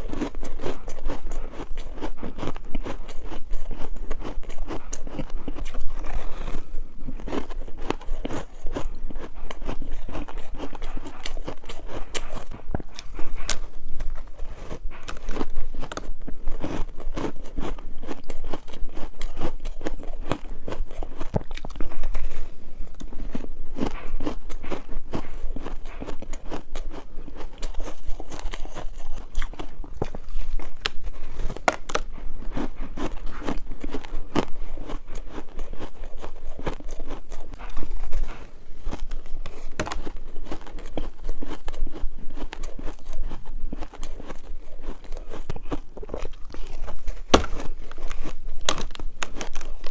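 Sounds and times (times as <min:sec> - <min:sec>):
person chewing ice: 0:00.0 - 0:49.9.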